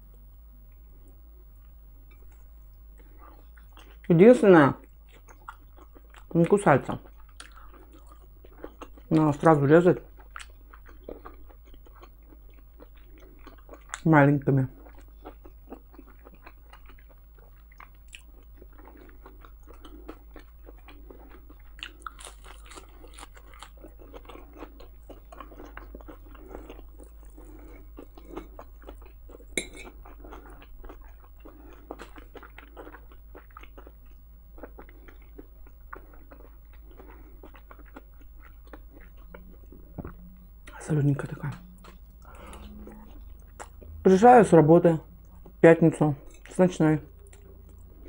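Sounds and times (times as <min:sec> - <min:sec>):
person chewing food: 0:00.0 - 0:48.0.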